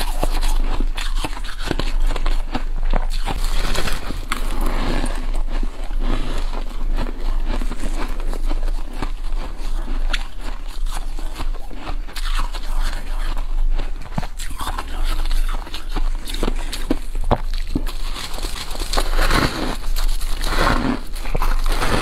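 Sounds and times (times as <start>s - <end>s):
chewing crunchy frost: 0.0s - 22.0s.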